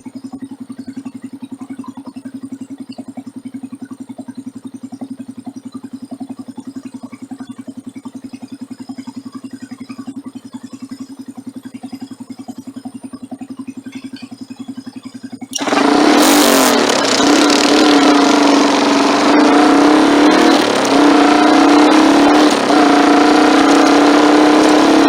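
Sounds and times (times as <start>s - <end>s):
motorcycle engine throbbing: 0.0s - 25.0s.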